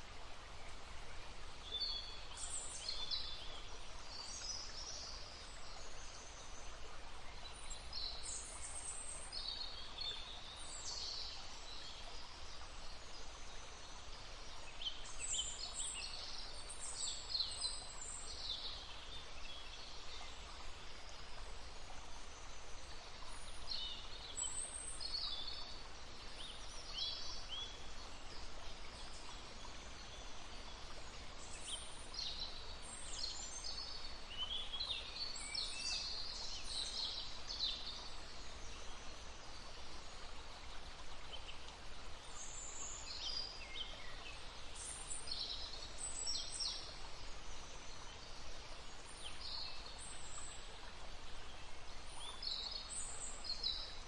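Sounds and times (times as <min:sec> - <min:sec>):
songbirds chirping: 0:00.0 - 0:54.0
stream babbling: 0:00.0 - 0:54.0.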